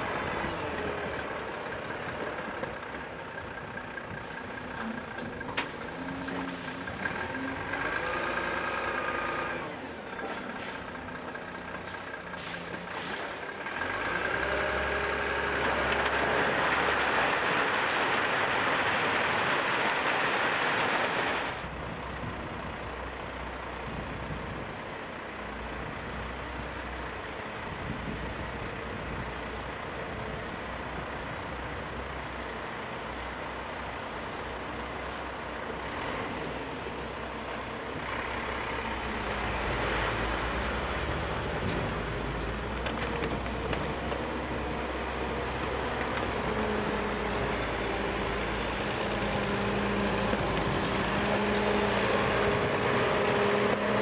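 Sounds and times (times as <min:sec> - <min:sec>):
truck engines running: 0:00.0 - 0:54.0.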